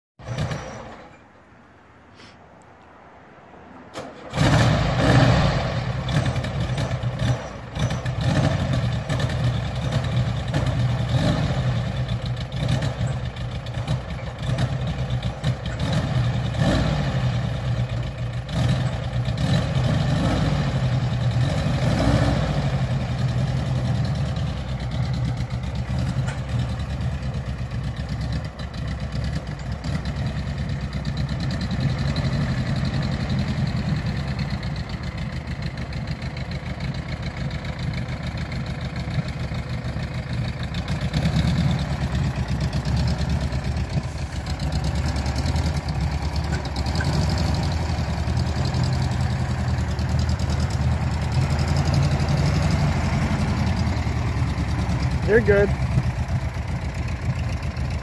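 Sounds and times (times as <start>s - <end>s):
car engine revving and idling: 3.4s - 58.0s.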